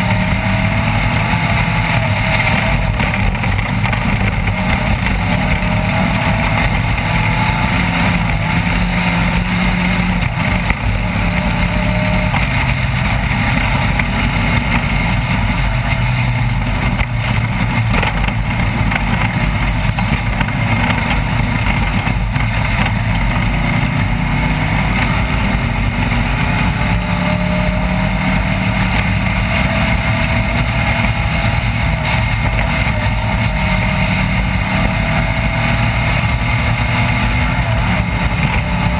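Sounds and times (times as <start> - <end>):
race vehicle engine revving: 0.0 - 38.9.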